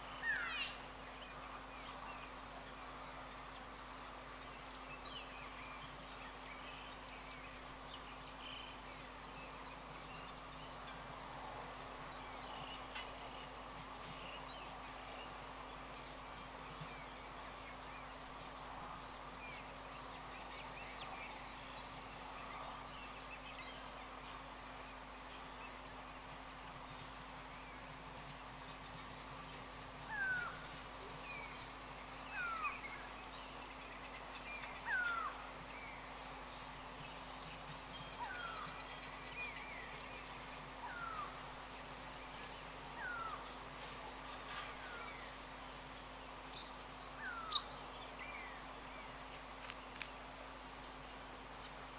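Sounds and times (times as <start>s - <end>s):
faint steady hum: 0.0s - 51.9s
small birds chirping: 0.0s - 51.9s.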